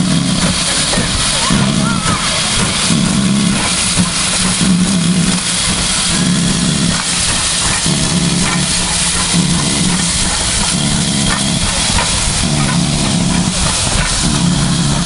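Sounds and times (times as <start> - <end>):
locomotive steam hiss: 0.0 - 15.0
low engine hum: 0.0 - 15.0.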